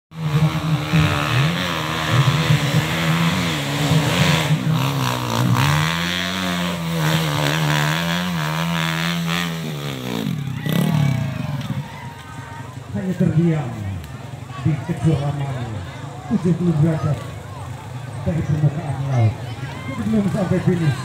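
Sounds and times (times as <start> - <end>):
dirt bike engine revving: 0.1 - 21.0.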